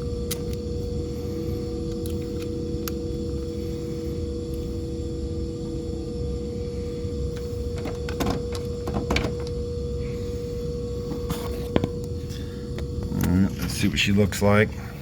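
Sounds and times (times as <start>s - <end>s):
refrigeration machinery hum: 0.0s - 15.0s.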